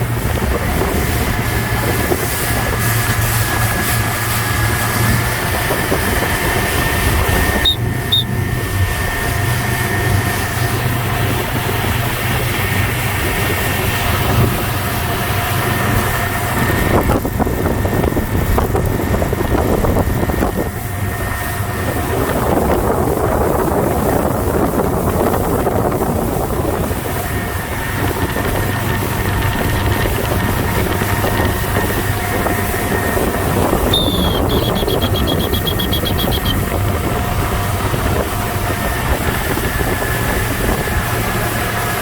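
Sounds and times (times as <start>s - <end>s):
motorboat engine running: 0.0s - 42.0s
rushing wind: 0.0s - 42.0s
water noise: 0.0s - 42.0s.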